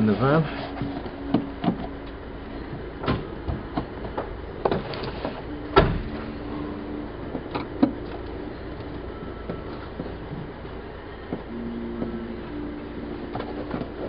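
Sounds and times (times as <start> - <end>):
steady low tone: 0.0 - 14.0.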